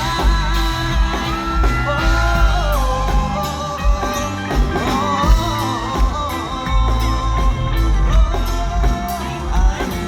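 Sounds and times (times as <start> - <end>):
drum and bass beat: 0.0 - 10.0
live band playing: 0.0 - 10.0
person singing: 0.0 - 10.0
wavering lead melody: 0.0 - 10.0.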